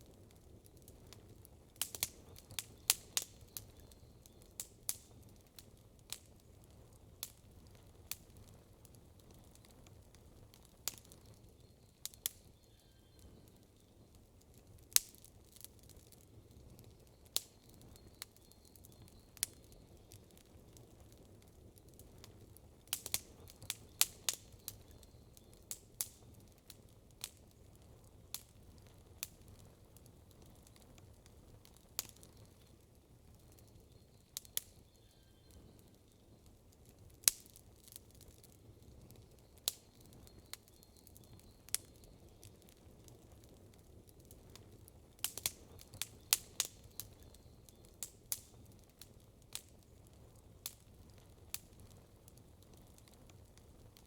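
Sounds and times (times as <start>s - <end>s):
campfire wood crackling: 0.0s - 54.0s.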